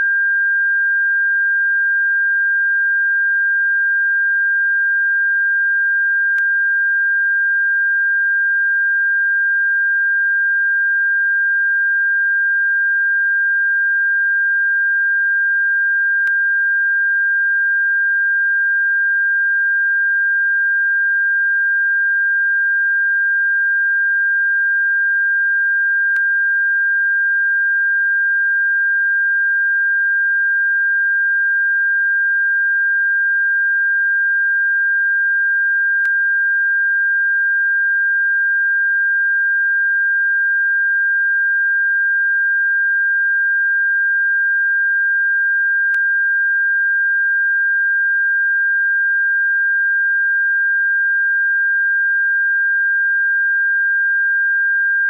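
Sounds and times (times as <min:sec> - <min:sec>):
steady sine tone: 0:00.0 - 0:55.0.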